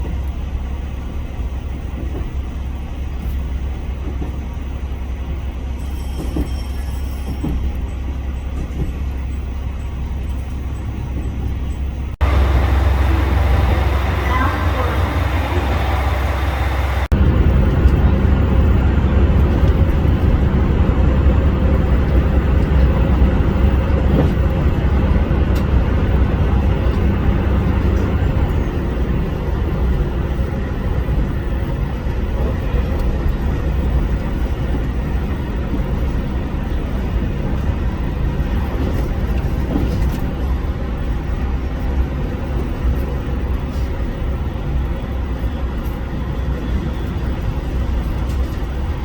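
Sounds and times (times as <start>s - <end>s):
diesel railcar rumbling: 0.0s - 49.0s.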